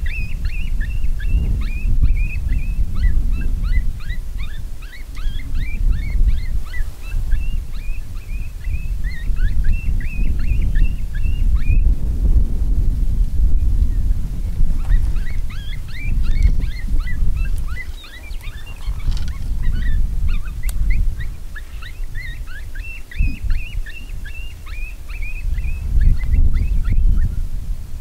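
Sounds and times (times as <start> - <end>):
coyotes yipping and howling: 0.0 - 11.8, 14.7 - 27.4
wind buffeting microphone: 0.0 - 28.0.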